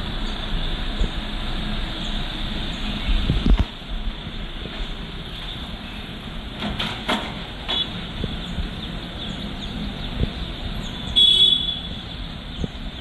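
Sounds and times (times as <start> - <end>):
small birds chirping: 0.0 - 6.4, 7.7 - 13.0
road traffic hum: 0.0 - 13.0.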